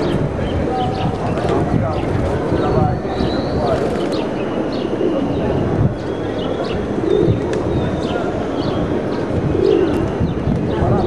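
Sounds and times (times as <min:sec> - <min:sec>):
pigeons cooing: 0:00.0 - 0:11.0
street background noise: 0:00.0 - 0:11.0.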